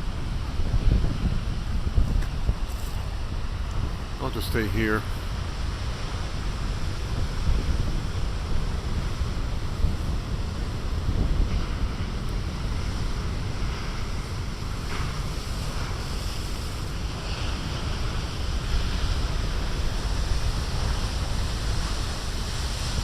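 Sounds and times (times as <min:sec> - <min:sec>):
surf breaking on shore: 0:00.0 - 0:23.0
wind buffeting microphone: 0:00.0 - 0:23.0.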